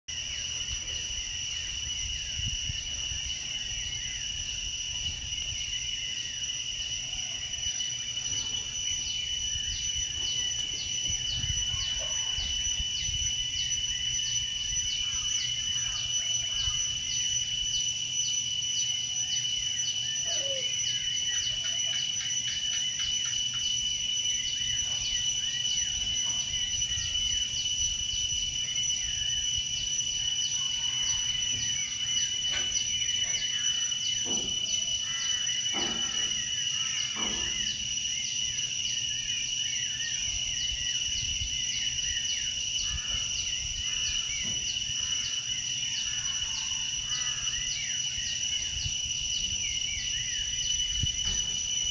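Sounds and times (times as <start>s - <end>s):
insects trilling: 0.1s - 51.9s
lower fuller calls: 0.3s - 51.9s.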